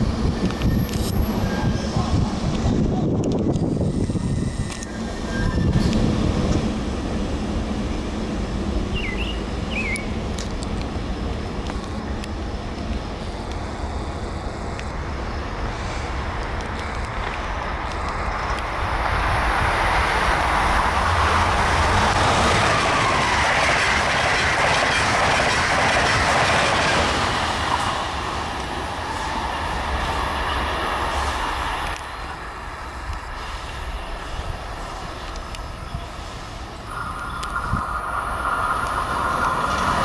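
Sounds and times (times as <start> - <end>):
train wheel noise: 0.0 - 40.0.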